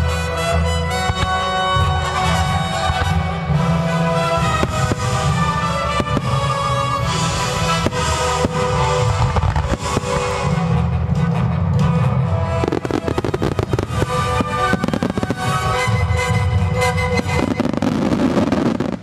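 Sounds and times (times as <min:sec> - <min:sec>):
music playing: 0:00.0 - 0:19.0.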